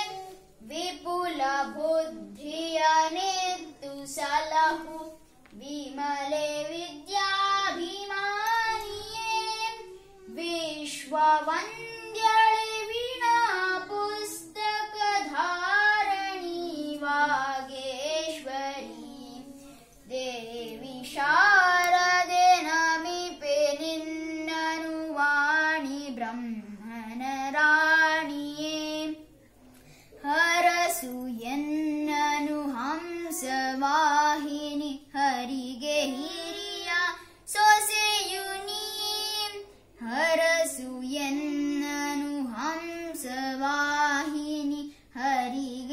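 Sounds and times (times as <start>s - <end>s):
child singing unaccompanied: 0.0s - 45.9s.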